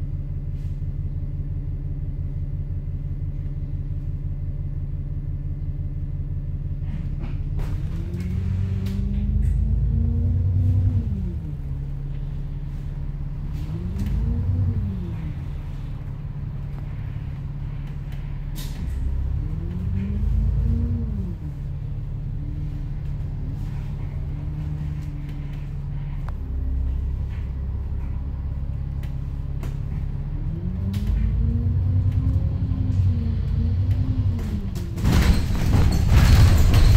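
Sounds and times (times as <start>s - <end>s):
bus engine: 0.0s - 36.9s.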